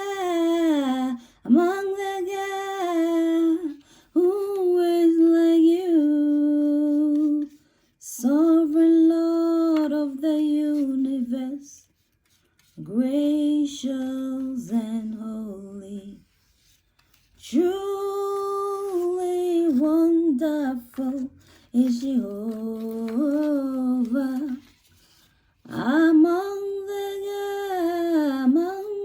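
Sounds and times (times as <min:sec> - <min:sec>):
woman singing a hymn: 0:00.0 - 0:11.9, 0:12.8 - 0:16.3, 0:17.4 - 0:24.8, 0:25.7 - 0:29.0.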